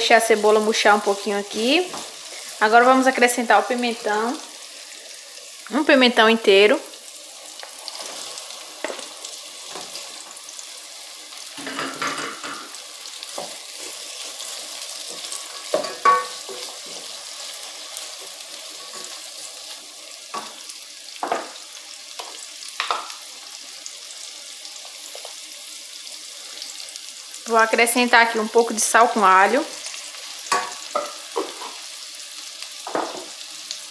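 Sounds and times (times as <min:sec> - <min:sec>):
vegetables sizzling in oil: 0:00.0 - 0:33.9.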